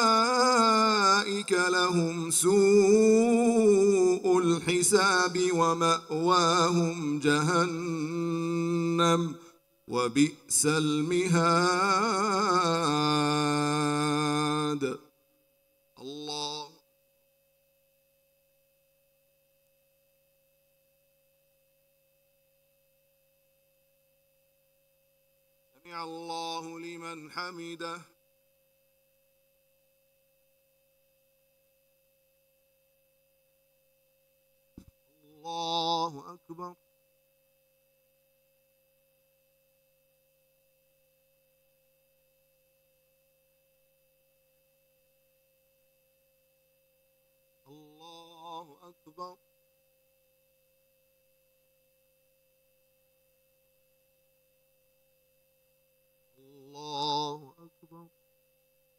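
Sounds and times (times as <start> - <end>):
faint electrical hum: 0.0 - 58.9
faint steady tone: 0.0 - 58.9.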